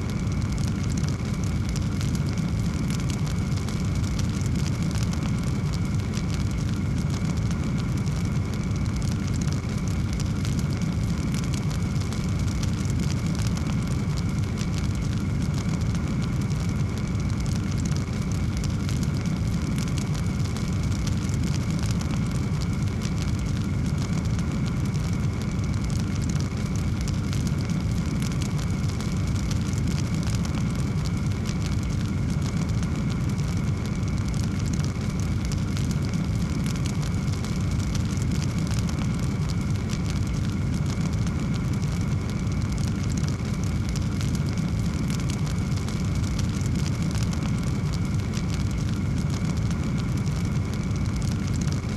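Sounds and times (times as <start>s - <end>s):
low fire rumble: 0.0s - 51.9s
wood fire crackling and popping: 0.0s - 51.9s.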